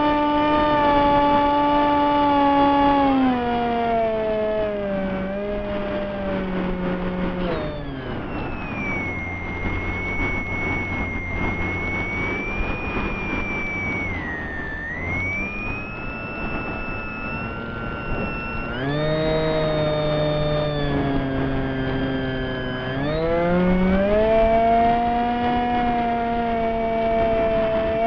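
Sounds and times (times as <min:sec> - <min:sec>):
model plane motor whining: 0:00.0 - 0:28.0
wind rushing on microphone: 0:00.0 - 0:28.0.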